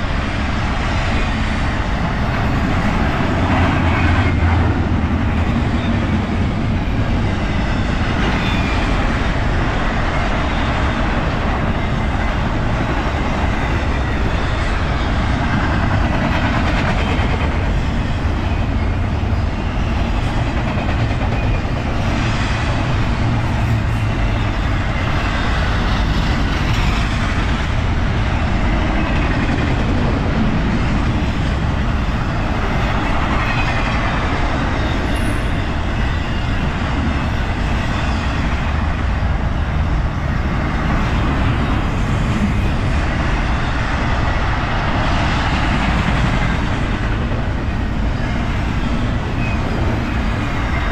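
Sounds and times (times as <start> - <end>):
freight train rumbling by: 0.0 - 50.9.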